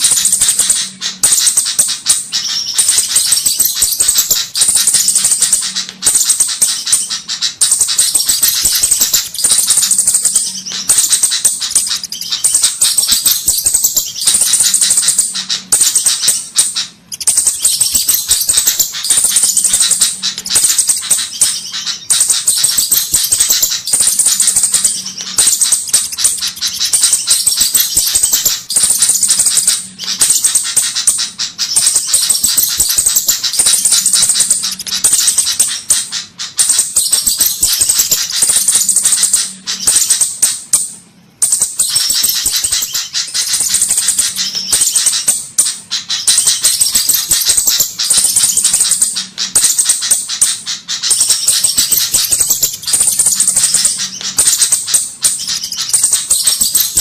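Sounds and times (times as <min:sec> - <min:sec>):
high-pitched bird ticking calls: 0:00.0 - 0:57.0.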